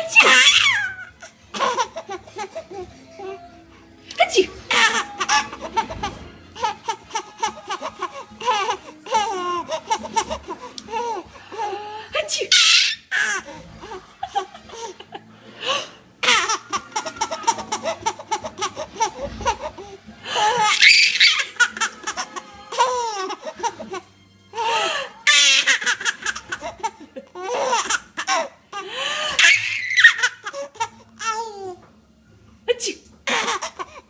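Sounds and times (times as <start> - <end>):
baby laughing and squealing: 0.0 - 3.0, 4.3 - 15.0, 16.2 - 31.8, 33.3 - 34.0.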